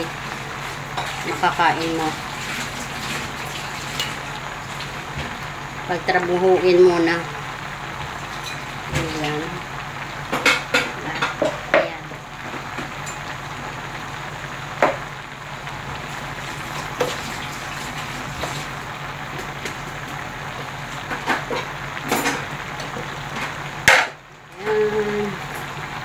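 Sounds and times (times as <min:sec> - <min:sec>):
pot simmering hiss: 0:00.0 - 0:26.0.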